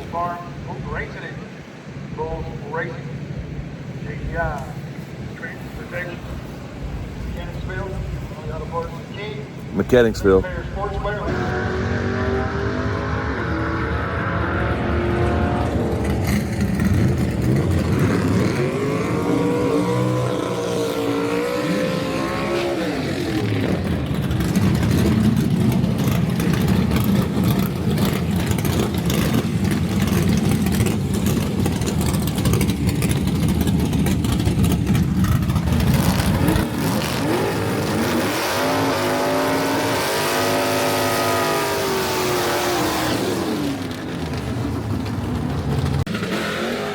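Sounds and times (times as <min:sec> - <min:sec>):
race car engines revving: 0:00.0 - 0:46.9.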